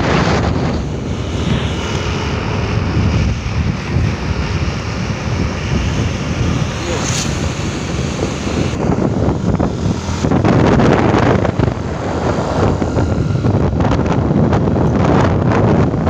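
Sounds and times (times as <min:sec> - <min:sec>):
road and engine noise: 0:00.0 - 0:16.0
wind buffeting microphone: 0:00.0 - 0:16.0.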